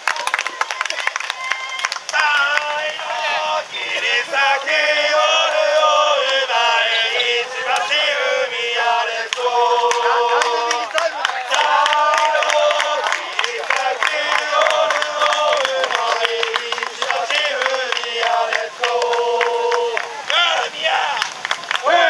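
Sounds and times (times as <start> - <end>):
men chanting in unison: 2.1 - 21.2, 21.8 - 22.0.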